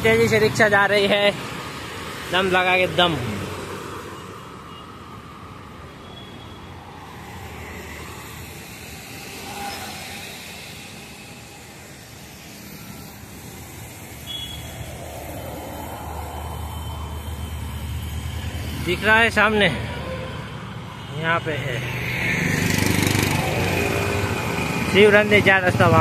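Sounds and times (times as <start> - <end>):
motorbikes scooters and cars passing: 0.0 - 26.0.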